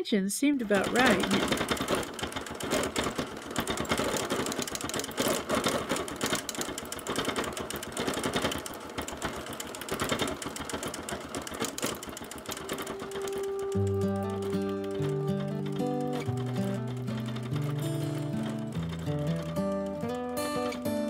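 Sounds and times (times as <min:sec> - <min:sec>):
quilting machine needle beat: 0:00.5 - 0:21.0.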